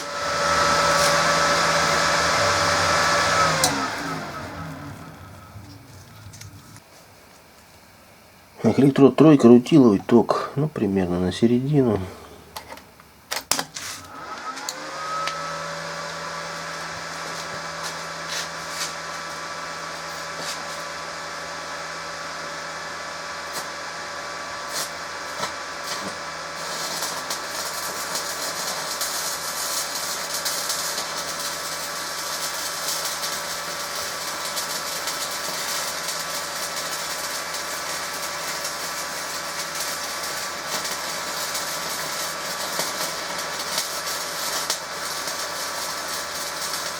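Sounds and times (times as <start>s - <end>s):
welding arc crackling: 0.0s - 6.9s, 15.2s - 46.9s
cooling fan humming: 0.0s - 46.9s.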